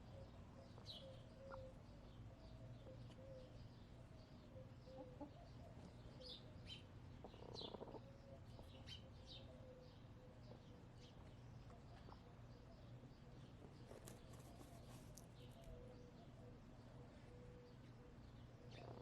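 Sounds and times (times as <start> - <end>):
hens murmuring and clucking: 0.0 - 19.0
small birds chirping: 0.0 - 19.0.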